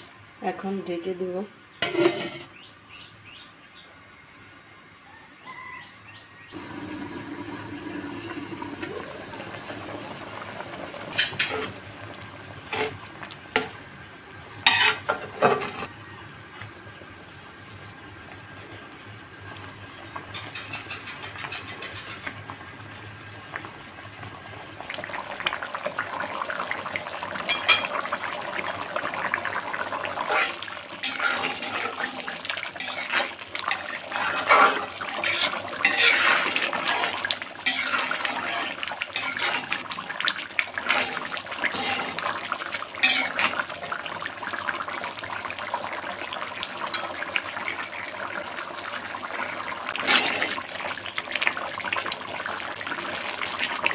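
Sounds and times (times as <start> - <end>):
curry boiling in a pot: 6.5 - 53.9.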